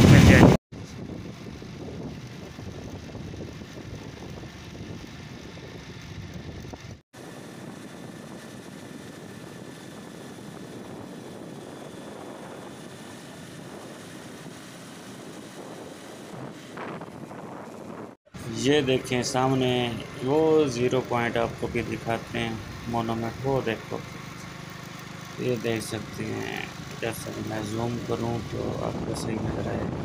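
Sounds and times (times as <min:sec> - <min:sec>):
motorcycle engine rumble: 0:00.0 - 0:30.0
wind and road noise: 0:00.0 - 0:30.0.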